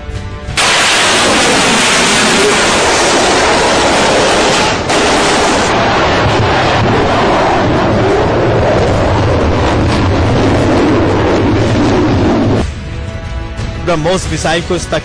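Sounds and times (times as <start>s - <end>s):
rocket booster roaring: 0.6s - 12.6s.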